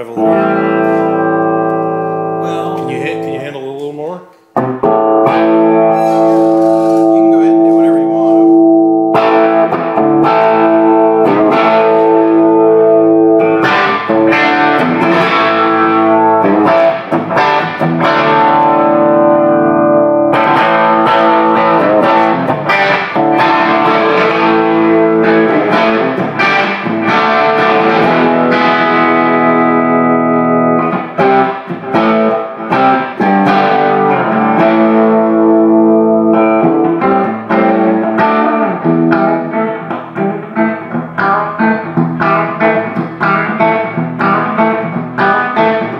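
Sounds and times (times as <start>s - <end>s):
overdriven electric guitar chords: 0.0s - 3.6s, 4.4s - 45.9s.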